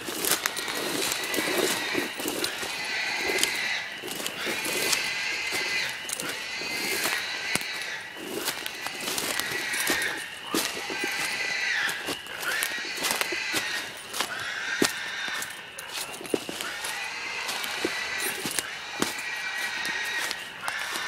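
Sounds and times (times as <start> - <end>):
drawn-out high-pitched cries: 0.0 - 21.0.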